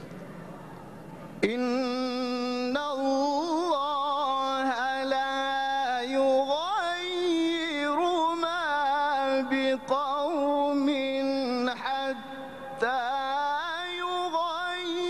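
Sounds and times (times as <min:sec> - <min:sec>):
man reciting melodically: 0:01.4 - 0:15.0.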